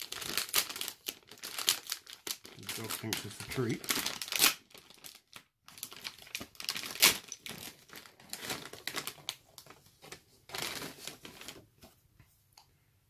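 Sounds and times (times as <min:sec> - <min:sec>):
foil bag crinkling: 0:00.0 - 0:09.8, 0:10.5 - 0:11.6.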